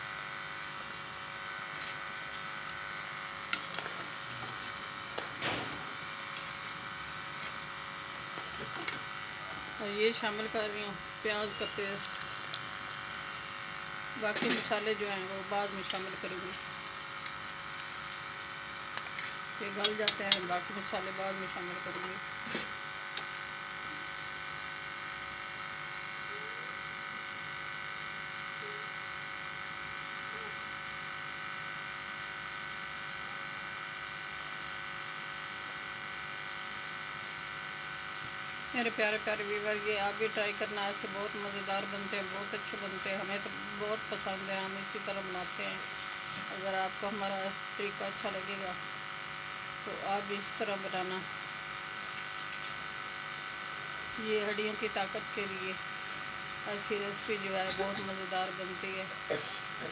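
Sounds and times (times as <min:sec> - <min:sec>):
water boiling in metal pot: 0:00.0 - 0:26.0, 0:36.1 - 0:59.8
steady hum: 0:00.0 - 0:59.9.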